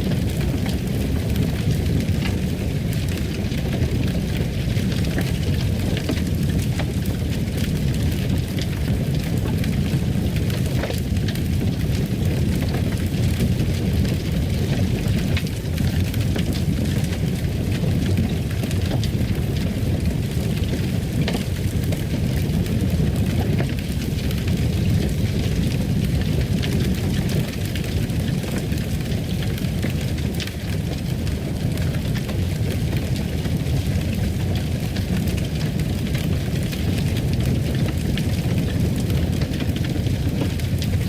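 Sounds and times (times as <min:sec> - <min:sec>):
fire crackling in a fireplace: 0:00.0 - 0:41.0.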